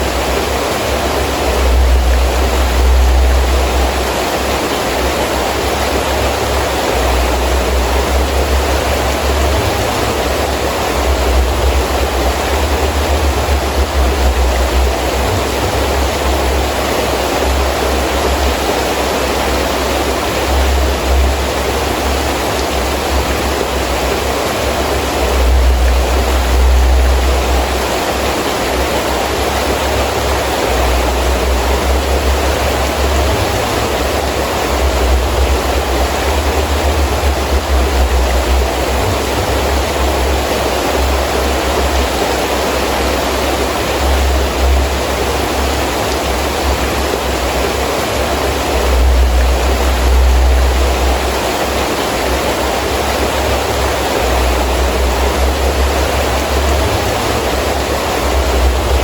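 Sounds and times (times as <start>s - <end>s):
deep rumble: 0.0s - 18.8s, 19.5s - 59.0s
gusting wind: 0.0s - 59.0s
heavy rain falling: 0.0s - 59.0s.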